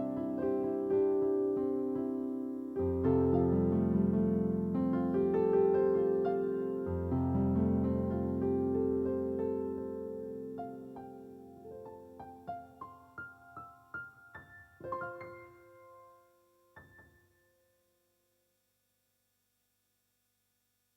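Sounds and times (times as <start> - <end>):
slow solo piano: 0.0 - 17.9.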